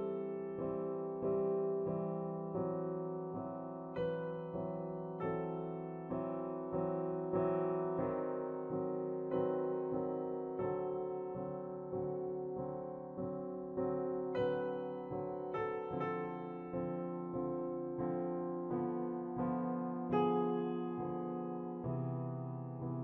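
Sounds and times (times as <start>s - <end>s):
gentle piano piece: 0.0s - 23.0s.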